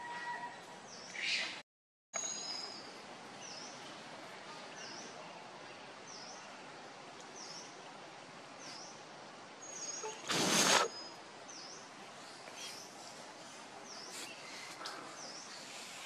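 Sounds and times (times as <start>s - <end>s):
steady background hiss: 2.2s - 16.0s.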